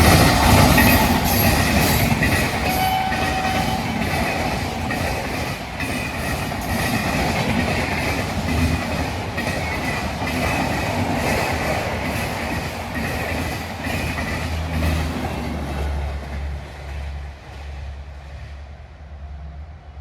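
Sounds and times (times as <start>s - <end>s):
wheels clattering on rail: 0.0s - 17.9s
train passing at speed: 0.0s - 20.0s.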